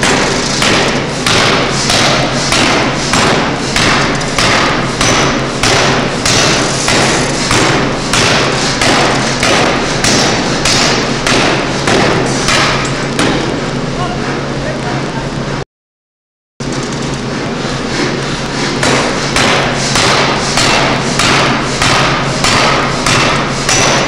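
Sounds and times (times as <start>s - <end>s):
forging hammer pounding metal: 0.0s - 13.6s, 17.4s - 24.0s.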